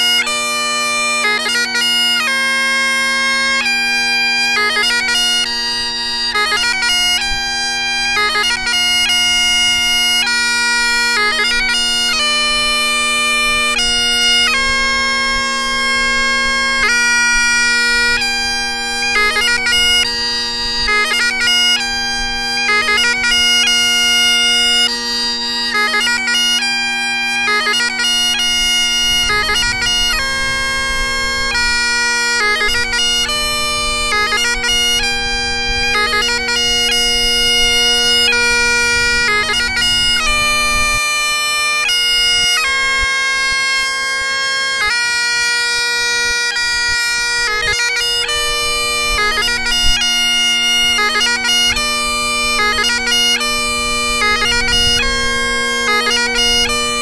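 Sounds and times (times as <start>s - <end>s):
bagpipe chanter melody: 0.0s - 57.0s
bagpipe drones humming: 0.0s - 57.0s.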